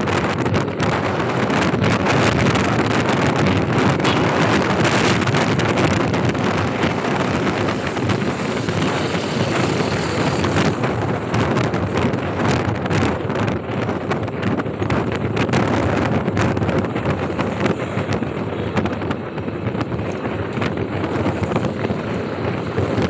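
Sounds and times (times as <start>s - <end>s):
motorcycle running: 0.0s - 23.0s
wind rushing over microphone: 0.0s - 23.0s.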